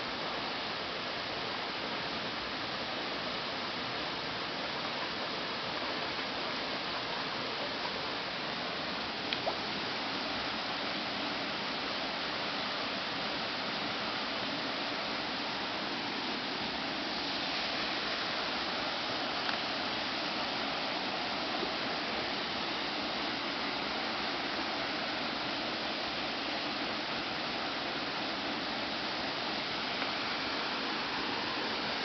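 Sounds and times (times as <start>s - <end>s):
creek water rushing over rocks: 0.0s - 32.0s.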